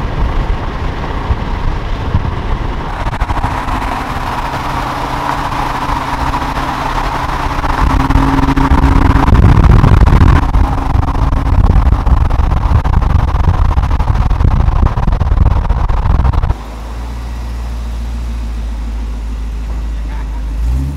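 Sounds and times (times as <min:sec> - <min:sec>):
truck driving at speed: 0:00.0 - 0:20.9
truck engine idling: 0:02.6 - 0:20.6.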